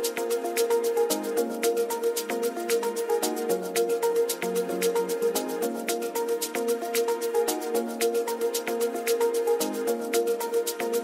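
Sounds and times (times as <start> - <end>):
electronic dance track: 0.0 - 11.0.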